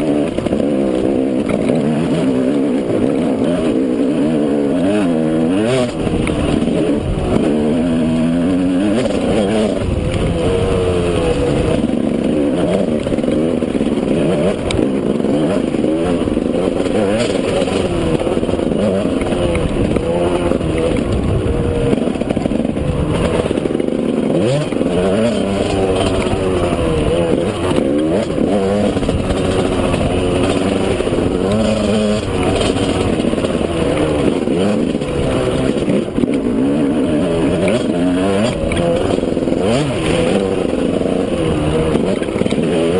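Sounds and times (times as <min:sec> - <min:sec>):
two-stroke motorcycle engine revving: 0:00.0 - 0:42.9.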